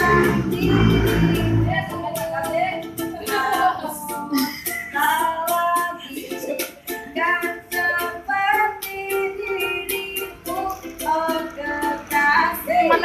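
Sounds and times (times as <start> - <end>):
child singing: 0.0 - 13.0
strummed guitar: 0.0 - 13.0.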